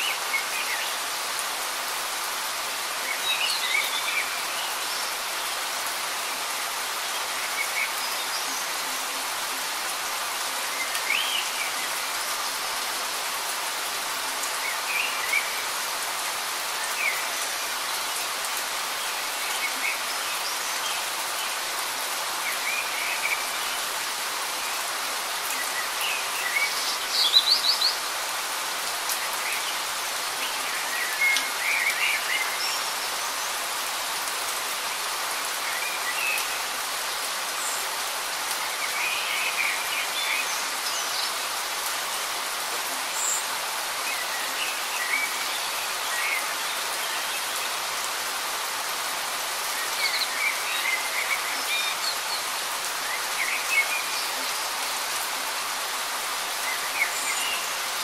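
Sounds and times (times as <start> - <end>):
light rain hissing: 0.0 - 58.0.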